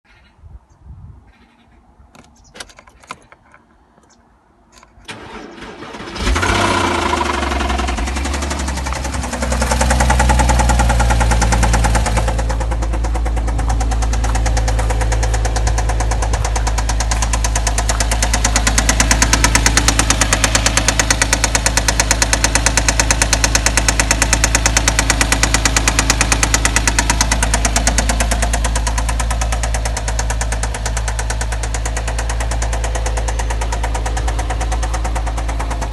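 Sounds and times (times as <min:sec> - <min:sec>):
car engine cranking and starting: 0:04.7 - 0:35.9
engine idling: 0:05.1 - 0:35.9
fast regular engine ticking: 0:05.2 - 0:35.9.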